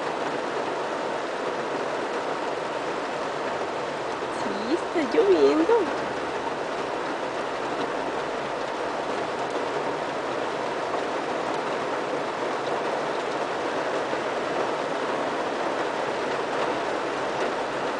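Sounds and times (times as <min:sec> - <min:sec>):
rain on car roof: 0:00.0 - 0:17.9.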